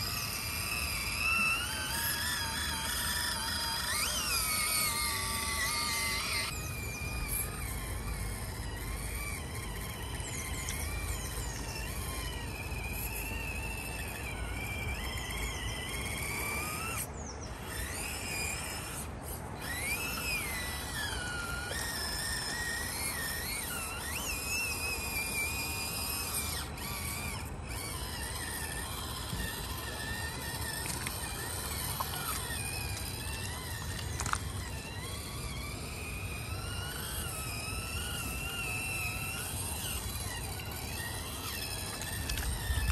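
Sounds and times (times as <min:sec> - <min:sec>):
toy car motor whining: 0:00.0 - 0:42.9.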